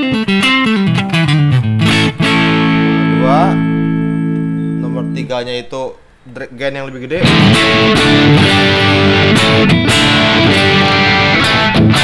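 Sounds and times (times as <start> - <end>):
distorted electric guitar riff: 0.0 - 6.2, 7.2 - 12.0.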